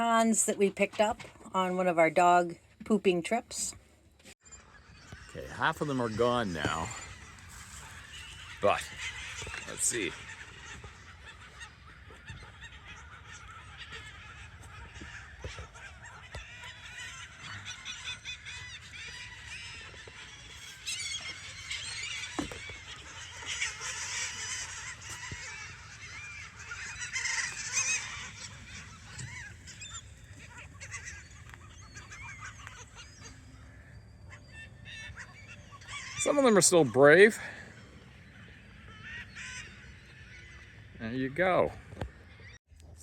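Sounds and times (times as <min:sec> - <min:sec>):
flock of birds calling: 0:00.0 - 0:42.6.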